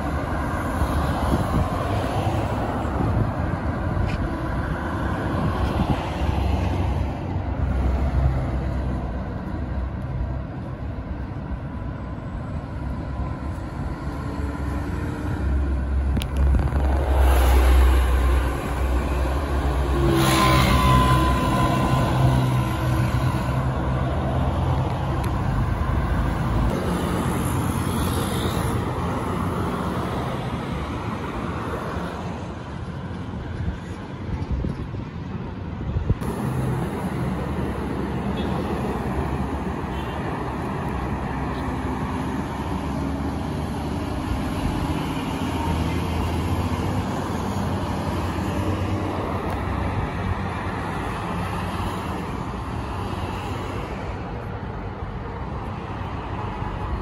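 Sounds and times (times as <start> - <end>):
highway traffic passing: 0.0 - 57.0.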